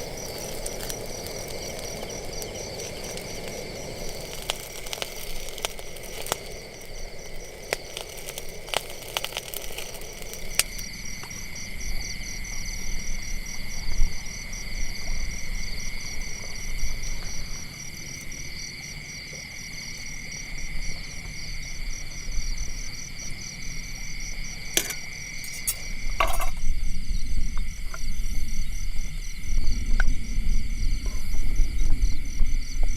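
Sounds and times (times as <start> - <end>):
night insects chirring: 0.0 - 32.9.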